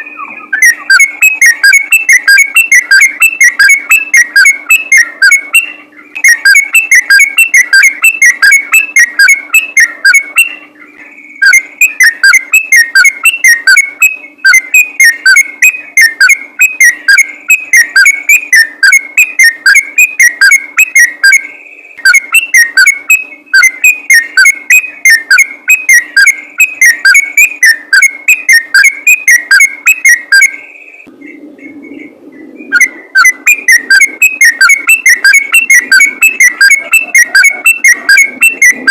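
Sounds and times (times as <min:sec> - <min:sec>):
bulbul singing rapid notes: 0:00.0 - 0:31.1, 0:32.6 - 0:38.9.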